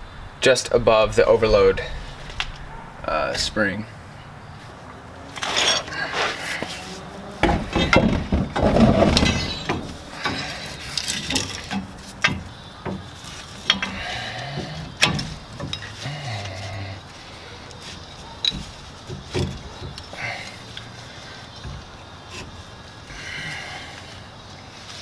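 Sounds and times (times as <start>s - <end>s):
steel parts clinking and clanking: 1.1s - 25.0s.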